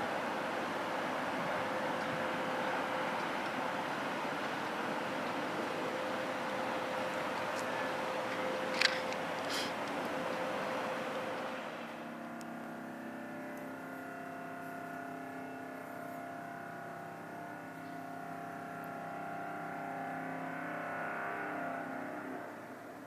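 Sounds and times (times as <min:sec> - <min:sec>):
droning hum of held tones: 0:00.0 - 0:23.0.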